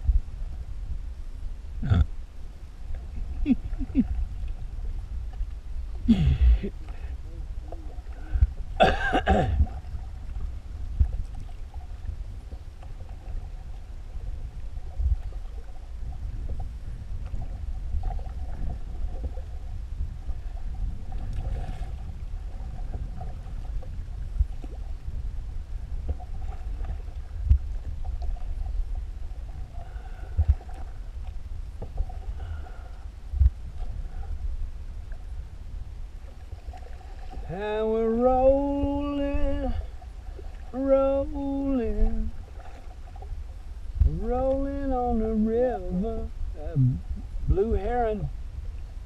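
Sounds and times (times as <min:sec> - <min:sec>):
faint water sounds: 0:00.0 - 0:49.0
wind rumble on microphone: 0:00.0 - 0:49.0.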